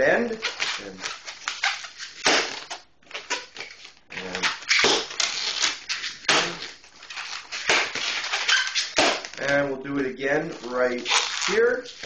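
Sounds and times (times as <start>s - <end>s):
balloons squeaking and rubbing: 0.0s - 12.0s.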